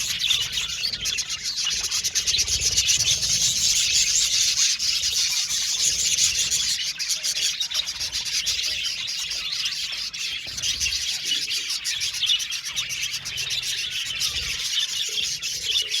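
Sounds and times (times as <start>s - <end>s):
budgerigars chirping and warbling: 0.0s - 16.0s.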